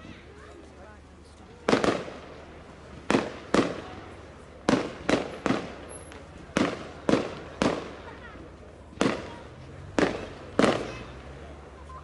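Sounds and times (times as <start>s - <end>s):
fireworks bangs with echo: 1.6s - 11.3s.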